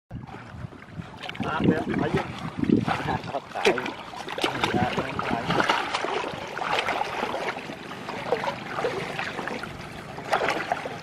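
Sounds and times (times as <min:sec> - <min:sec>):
water splashing and sloshing: 0:00.1 - 0:11.0.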